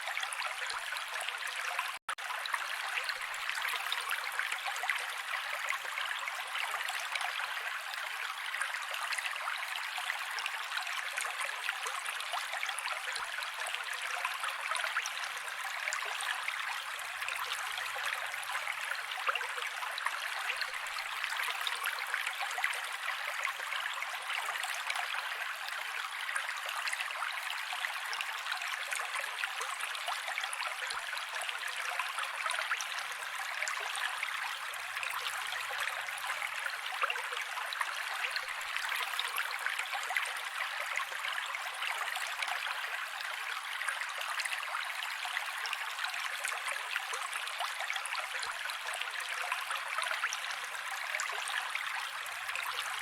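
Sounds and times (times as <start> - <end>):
mountain creek flowing: 0.0 - 53.0.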